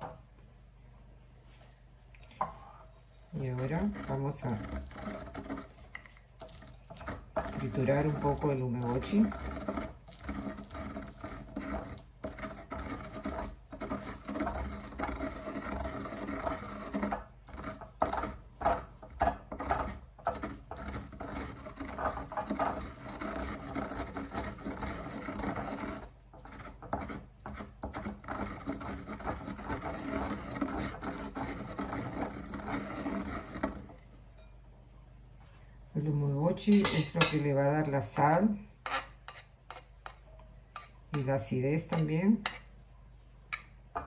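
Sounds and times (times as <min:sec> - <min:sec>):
wooden pestle grinding in mortar: 0:02.4 - 0:34.2, 0:38.2 - 0:42.7, 0:43.5 - 0:44.0.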